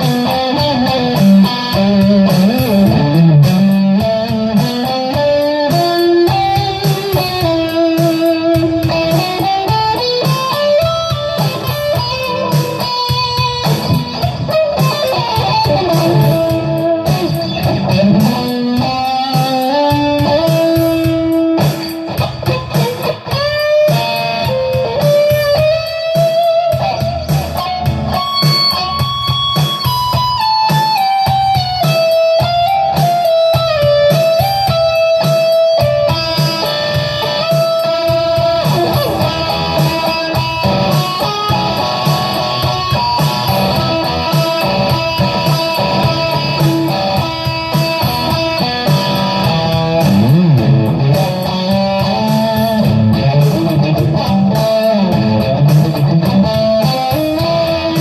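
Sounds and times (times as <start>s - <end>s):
electric guitar lead line: 0.0s - 58.0s.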